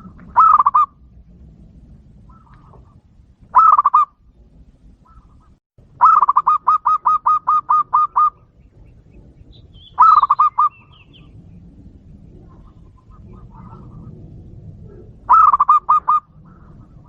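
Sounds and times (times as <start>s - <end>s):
dove cooing: 0.0s - 1.0s, 2.2s - 4.2s, 5.0s - 17.0s.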